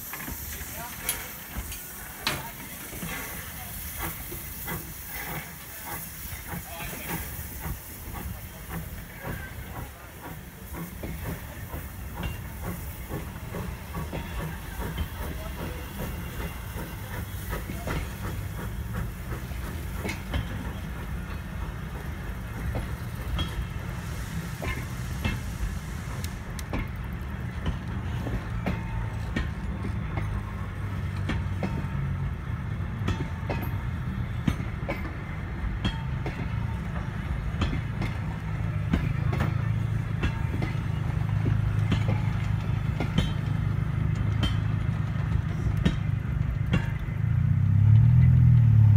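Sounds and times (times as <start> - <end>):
steam hiss: 0.0 - 48.9
train carriages rumbling: 0.0 - 48.9
wheels clicking over rails: 0.0 - 48.9.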